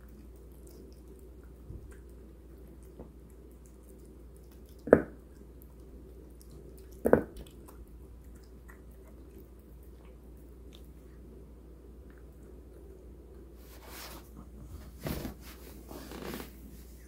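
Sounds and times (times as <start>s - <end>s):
cat chewing wet food: 0.0s - 13.7s.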